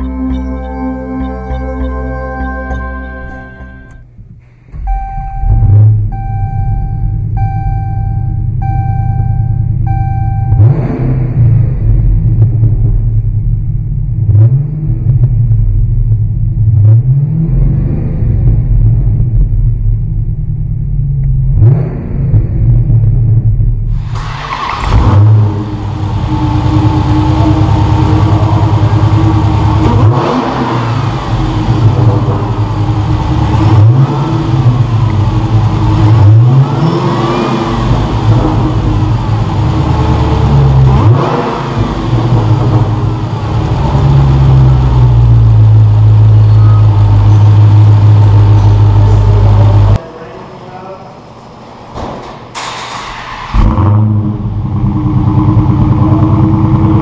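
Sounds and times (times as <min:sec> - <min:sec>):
car engine revving: 0:04.7 - 0:07.9, 0:08.6 - 0:50.0, 0:52.4 - 0:57.0.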